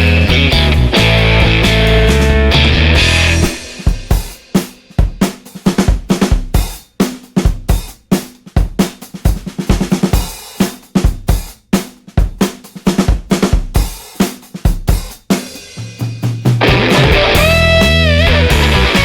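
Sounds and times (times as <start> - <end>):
drum kit playing a beat: 0.0 - 19.0.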